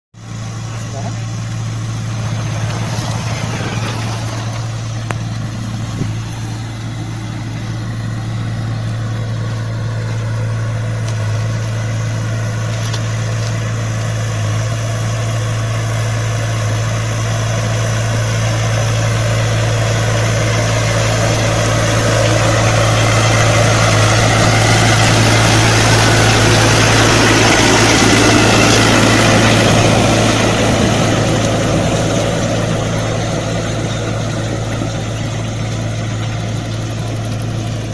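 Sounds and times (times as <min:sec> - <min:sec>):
diesel engine of backhoe loader: 0:00.2 - 0:37.9.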